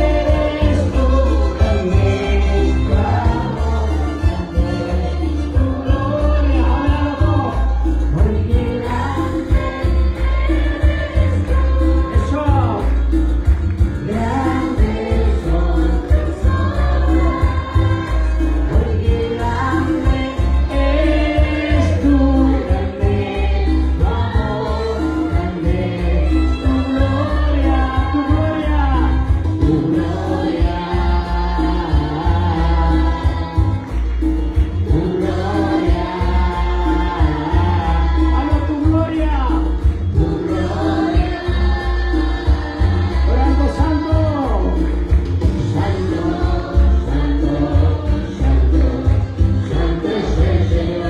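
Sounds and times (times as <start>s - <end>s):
women singing: 0.0s - 13.2s, 14.0s - 44.8s, 45.4s - 51.0s
amplified backing music: 0.0s - 51.0s
man singing lead: 0.0s - 51.0s.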